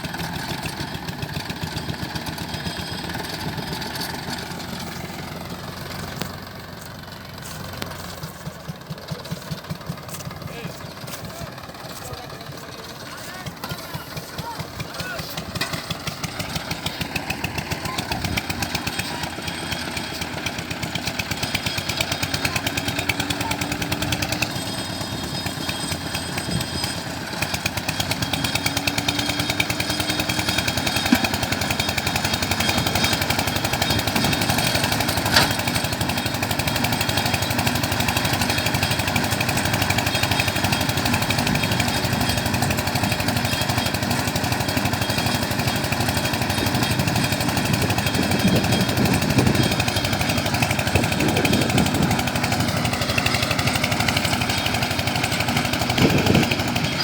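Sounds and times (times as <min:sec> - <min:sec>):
tractor diesel engine knocking: 0:00.0 - 0:57.0.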